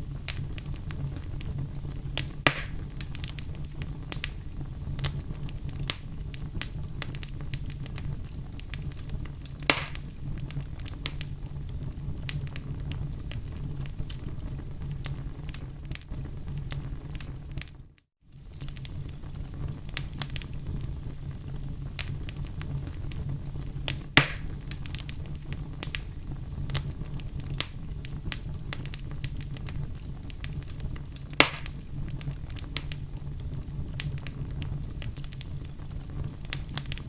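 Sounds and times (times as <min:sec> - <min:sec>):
campfire crackling: 0:00.0 - 0:37.0
loud fire pops: 0:00.0 - 0:37.0.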